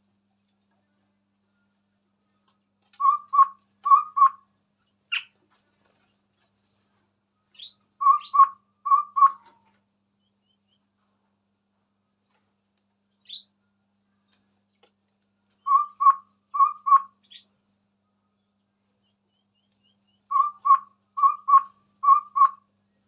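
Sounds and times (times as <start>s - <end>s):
bird low hooting notes: 0.0s - 11.4s, 15.3s - 23.0s.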